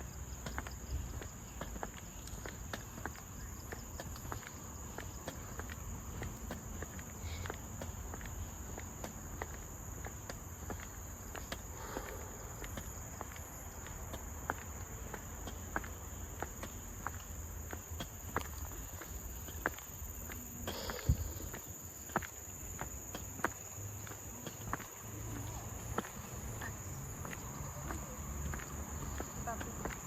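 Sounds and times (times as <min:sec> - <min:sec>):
footsteps clicking on walkway: 0:00.0 - 0:30.0
insects droning: 0:00.0 - 0:30.0.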